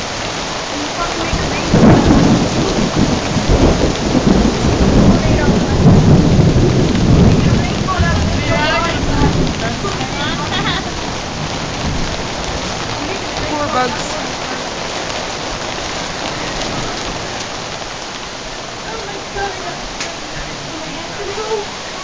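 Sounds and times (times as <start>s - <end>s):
thunder rolling: 0.0s - 21.8s
heavy rain downpour: 0.0s - 22.0s.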